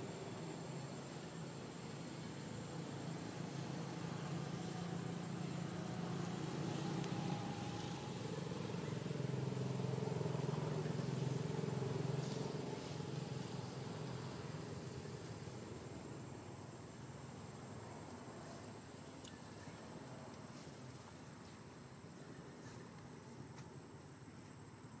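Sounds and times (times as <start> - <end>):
vehicle engine humming: 0.0 - 24.7.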